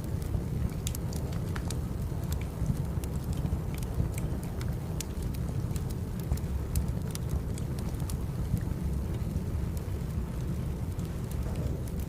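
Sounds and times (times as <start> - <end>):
firewood crackling and popping: 0.0 - 12.0
low rumble of fire: 0.0 - 12.0.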